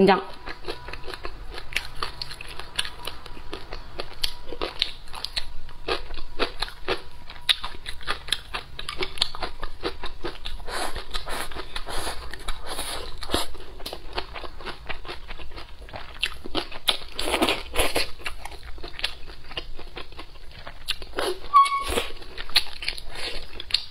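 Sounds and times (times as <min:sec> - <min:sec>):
chewing and crunching food: 0:00.2 - 0:23.9.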